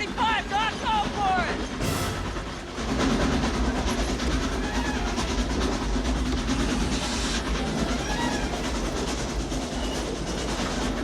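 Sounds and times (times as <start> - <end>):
steam locomotive rumble: 0.0 - 11.0
steam hiss: 1.8 - 10.8.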